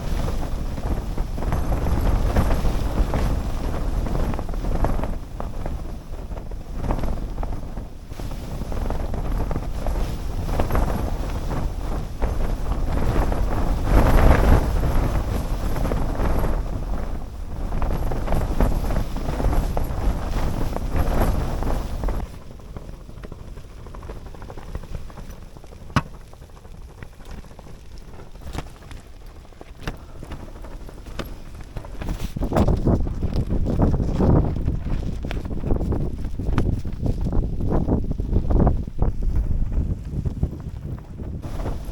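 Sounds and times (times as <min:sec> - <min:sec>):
snowstorm wind gusting: 0:00.0 - 0:41.9
wind noise on microphone: 0:00.0 - 0:41.9.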